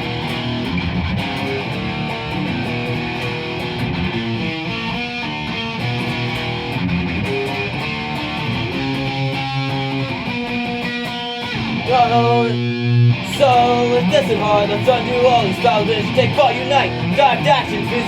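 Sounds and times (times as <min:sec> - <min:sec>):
punk guitars playing chords: 0:00.0 - 0:18.0.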